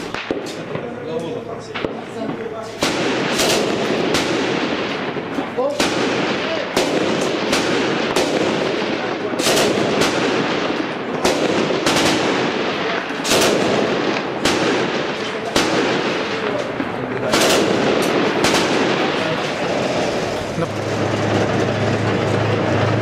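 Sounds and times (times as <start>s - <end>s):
continuous loud noise: 0.0s - 23.0s
sharp gunshots: 0.0s - 23.0s.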